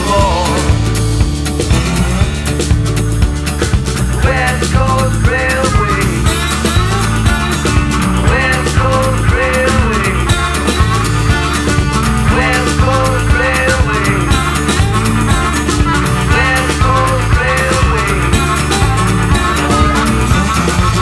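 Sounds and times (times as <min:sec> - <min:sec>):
band music with steady beat: 0:00.0 - 0:21.0.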